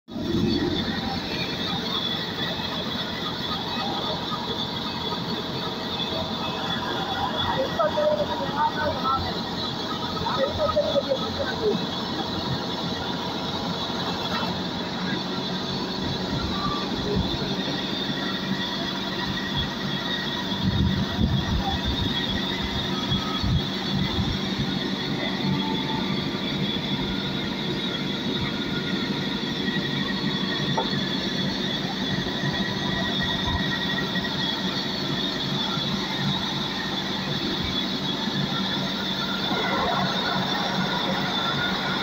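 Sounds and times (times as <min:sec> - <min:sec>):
high squeal of saw: 0:00.2 - 0:42.0.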